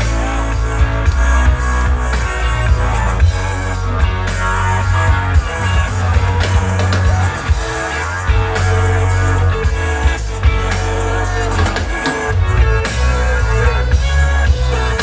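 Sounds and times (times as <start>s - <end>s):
drum kit beating: 0.0s - 15.0s
guitar and synth lines: 0.0s - 15.0s
heavy bass line: 0.0s - 15.0s
live band over loudspeakers: 0.0s - 15.0s.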